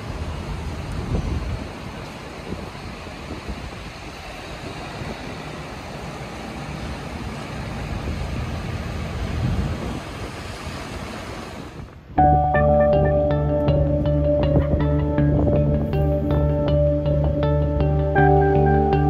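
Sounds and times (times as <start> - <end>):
wind on microphone: 0.0 - 6.1, 7.6 - 12.5, 13.1 - 18.4.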